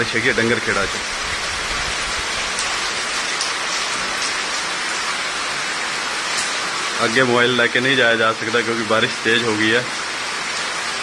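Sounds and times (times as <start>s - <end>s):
heavy rain on hard surfaces: 0.0s - 11.0s.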